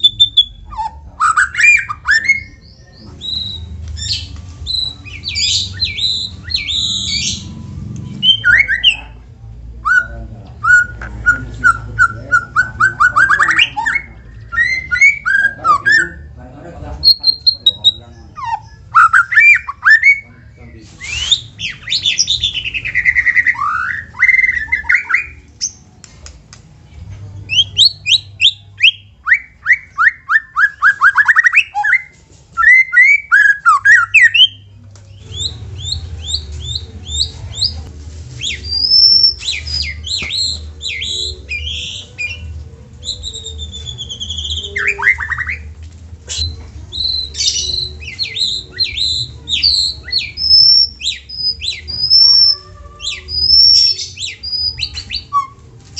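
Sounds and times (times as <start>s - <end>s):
bird singing: 0.0s - 25.9s, 27.4s - 37.8s, 38.4s - 45.7s, 46.3s - 55.6s.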